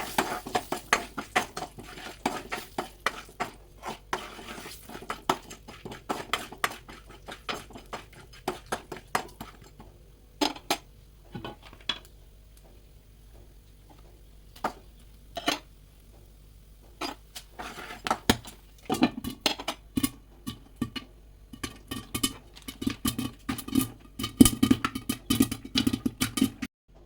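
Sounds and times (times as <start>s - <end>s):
popcorn popping in a covered pot: 0.0s - 12.7s, 16.8s - 27.0s.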